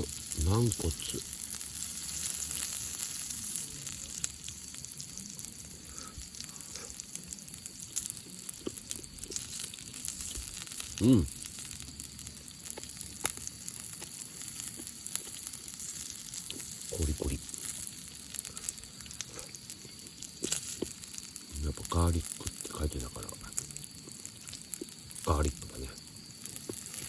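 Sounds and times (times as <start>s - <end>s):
fire crackling and popping: 0.0s - 27.0s
meat sizzling over fire: 0.0s - 27.0s.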